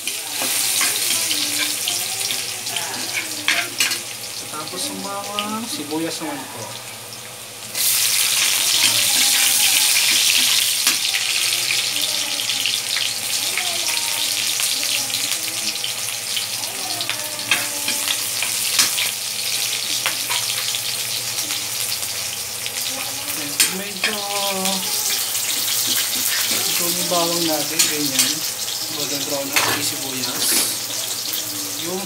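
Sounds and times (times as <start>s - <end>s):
onions sizzling in oil: 0.0s - 32.0s.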